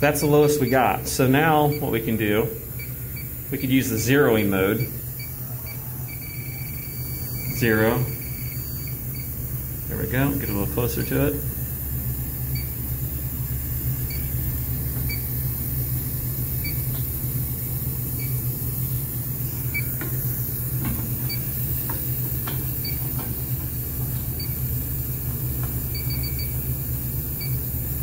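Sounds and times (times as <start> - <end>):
refrigeration equipment hum: 0.0 - 28.0.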